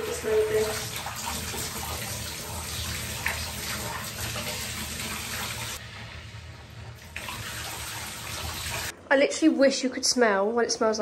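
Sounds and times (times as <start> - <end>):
water pouring into bathtub: 0.0 - 8.9.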